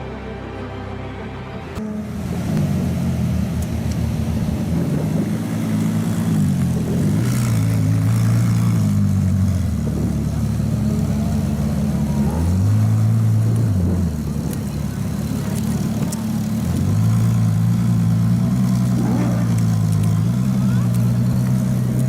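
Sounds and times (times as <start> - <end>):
sports car engine at low revs: 1.7 - 22.0.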